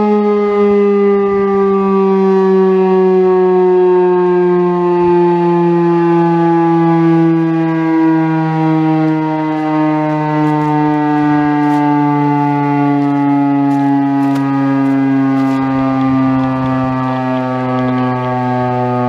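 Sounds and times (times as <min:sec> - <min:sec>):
warning siren winding down: 0:00.0 - 0:19.0.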